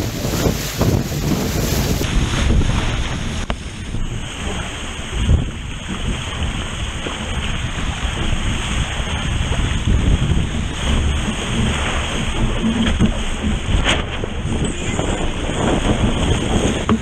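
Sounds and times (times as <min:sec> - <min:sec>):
water rushing past a hull: 0:00.0 - 0:17.0
wind buffeting microphone: 0:00.0 - 0:17.0.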